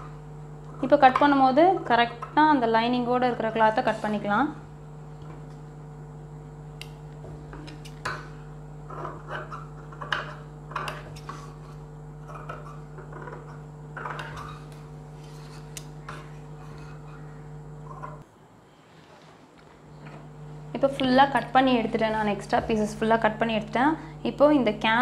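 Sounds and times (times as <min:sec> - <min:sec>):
steady low hum: 0:00.0 - 0:18.8, 0:19.4 - 0:25.0.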